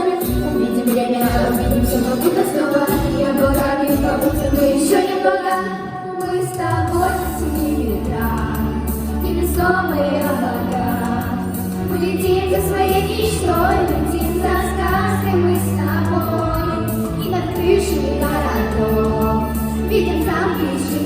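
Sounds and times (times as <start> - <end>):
pop song with singing: 0.0 - 21.0.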